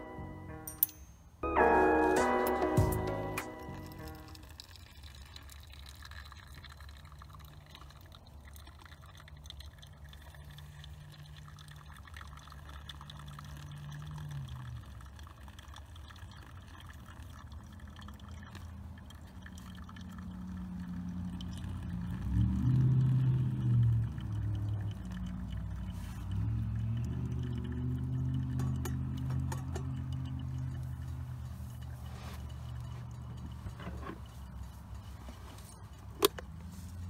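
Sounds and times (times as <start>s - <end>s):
water trickling into carafe: 0.0s - 0.7s, 2.0s - 37.0s
water pouring onto coffee grounds: 2.6s - 37.0s.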